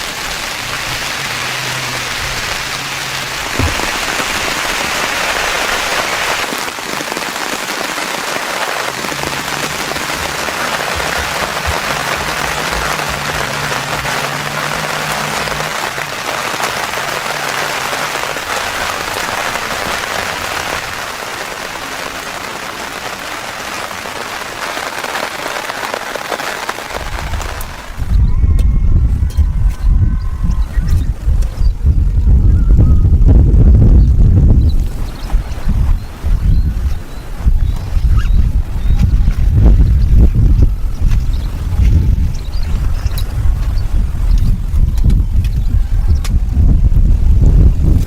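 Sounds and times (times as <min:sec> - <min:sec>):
heavy rain on a tent: 0:00.0 - 0:48.0.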